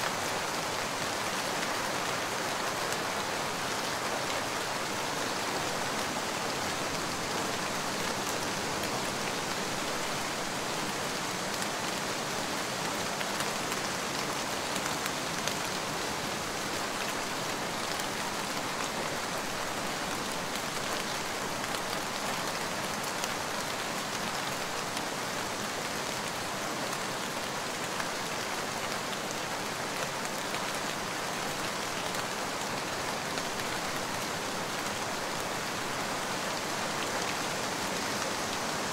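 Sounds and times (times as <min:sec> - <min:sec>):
hiss of falling rain: 0:00.0 - 0:38.9.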